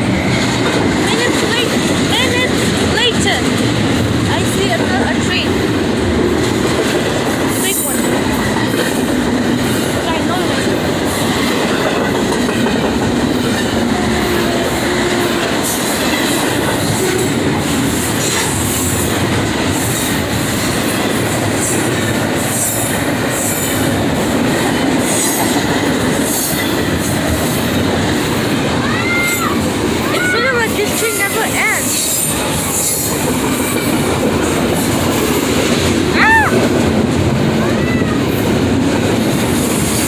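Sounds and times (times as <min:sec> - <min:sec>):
rail joints clicking: 0:00.0 - 0:40.0
train wheels rumbling on rails: 0:00.0 - 0:40.0.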